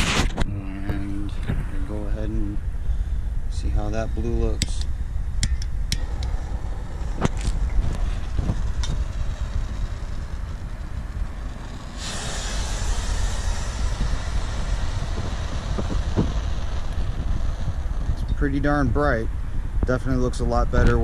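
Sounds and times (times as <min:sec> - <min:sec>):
steady low rumble: 0:00.0 - 0:21.0
firework composition hissing: 0:01.0 - 0:21.0.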